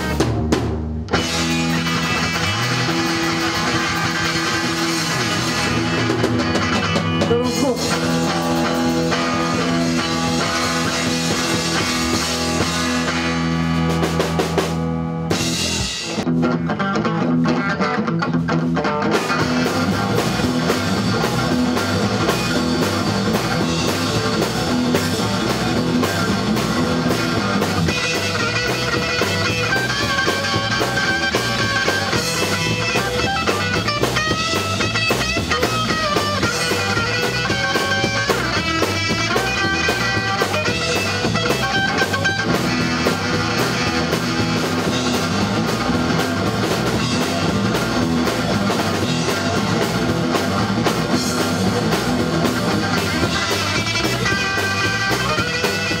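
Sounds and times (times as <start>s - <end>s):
rock band playing: 0.0s - 56.0s
lead guitar melody: 1.0s - 56.0s.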